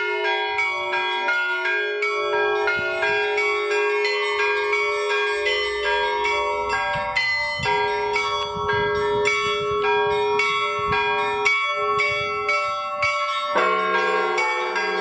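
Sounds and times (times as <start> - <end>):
church bells pealing: 0.0 - 15.0
low bell tone ringing: 0.0 - 15.0.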